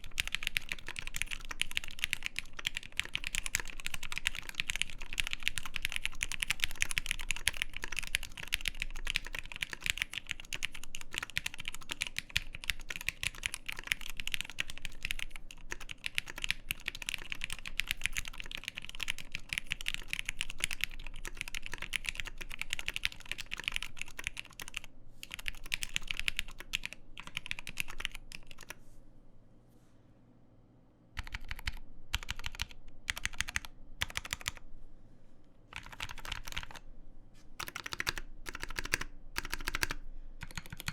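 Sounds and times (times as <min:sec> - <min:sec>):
fast typing on mechanical keyboard: 0:00.0 - 0:28.8, 0:31.2 - 0:34.6, 0:35.7 - 0:36.8, 0:37.6 - 0:40.9.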